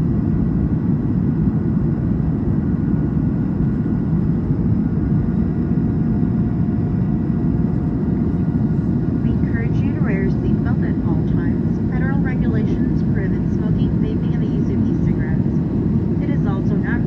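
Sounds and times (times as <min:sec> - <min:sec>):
aircraft cabin roar: 0:00.0 - 0:17.0
faint steady whine: 0:00.0 - 0:17.0.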